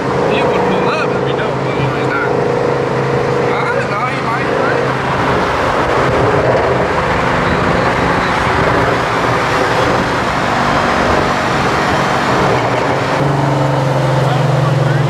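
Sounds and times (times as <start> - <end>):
car engine running: 0.0 - 15.0
deep steady drone: 0.0 - 15.0
road noise: 0.0 - 15.0.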